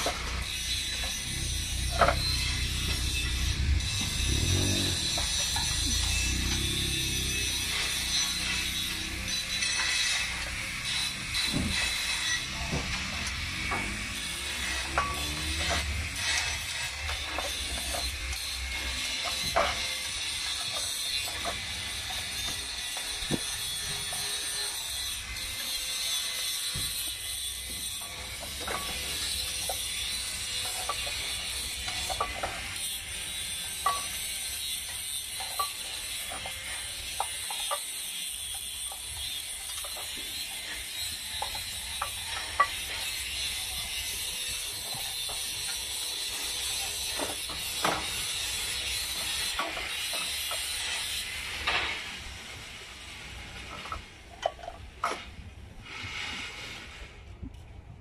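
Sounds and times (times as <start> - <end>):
hand tools clicking and tapping metal: 0.0 - 52.6.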